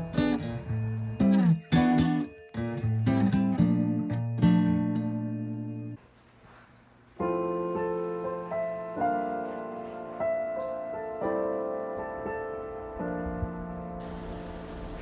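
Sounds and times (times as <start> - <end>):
soft keyboard chords: 0.0 - 6.0, 7.1 - 15.0.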